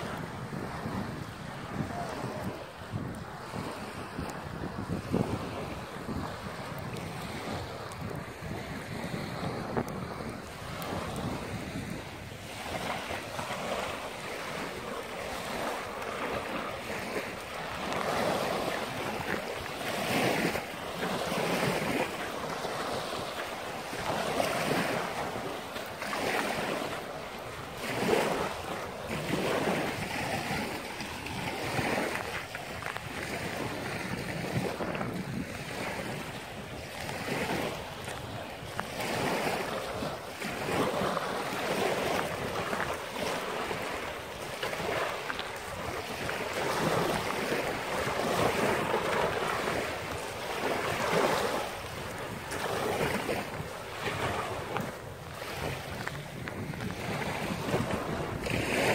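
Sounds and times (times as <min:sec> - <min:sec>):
waves washing on pebbles: 0:00.0 - 0:58.9.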